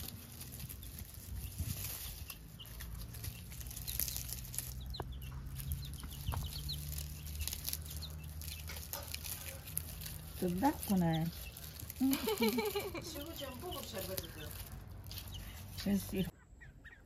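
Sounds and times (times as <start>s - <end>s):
crackling and rustling of stalks: 0.0s - 16.4s
baby chicks peeping: 0.0s - 17.0s.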